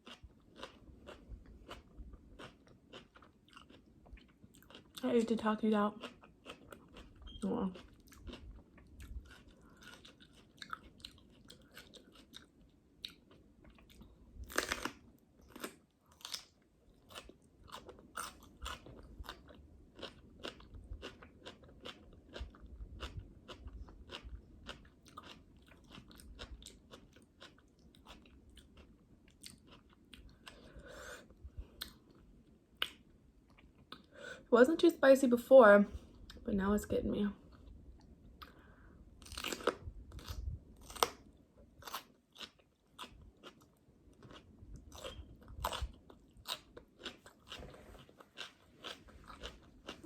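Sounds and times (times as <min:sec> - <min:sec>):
crunching and chewing pepper: 0:00.0 - 0:34.2, 0:37.5 - 0:50.0.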